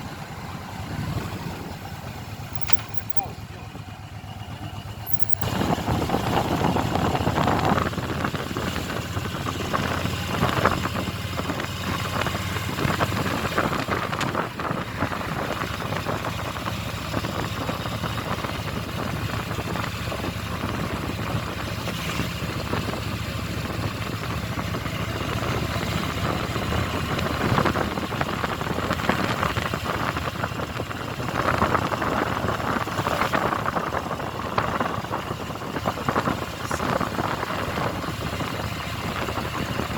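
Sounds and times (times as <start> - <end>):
motorcycle engine running: 1.9 - 39.9.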